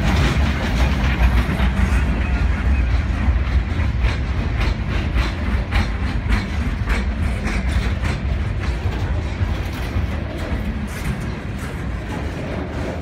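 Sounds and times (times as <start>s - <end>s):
freight train rumbling: 0.0s - 13.0s
wheels clicking over rail joints: 0.0s - 13.0s.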